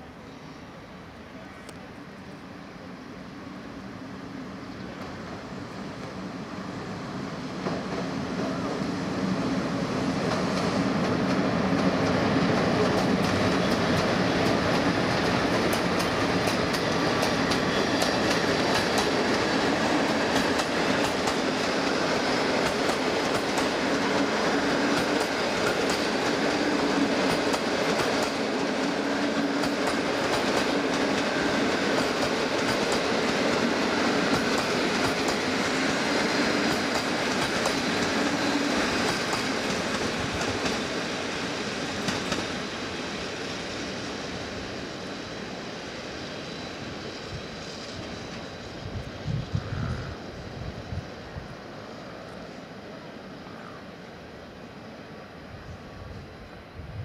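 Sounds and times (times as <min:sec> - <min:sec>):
passenger train rolling past: 0:00.0 - 0:57.0.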